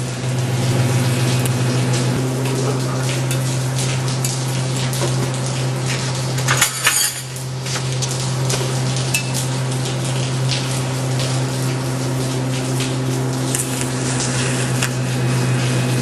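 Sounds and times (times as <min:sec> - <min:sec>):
welding arc buzzing and sizzling: 0:00.0 - 0:16.0.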